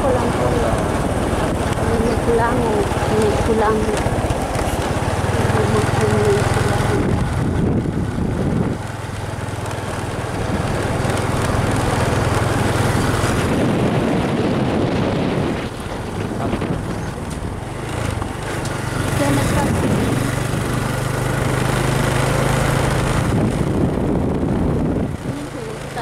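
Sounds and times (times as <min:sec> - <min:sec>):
small motorbike engine running: 0:00.0 - 0:26.0
wind on microphone: 0:00.0 - 0:26.0.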